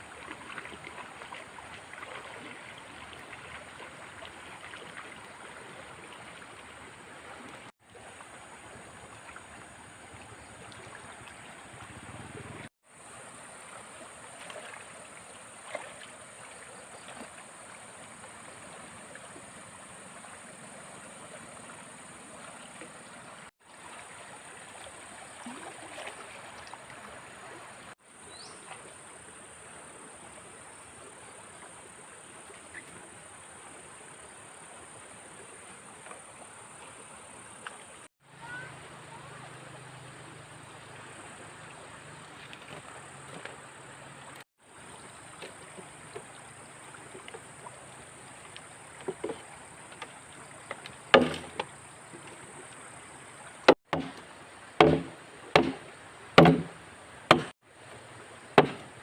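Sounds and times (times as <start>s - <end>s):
floodwater rushing: 0.0s - 33.8s, 38.2s - 59.0s
small water splashes: 0.0s - 59.0s.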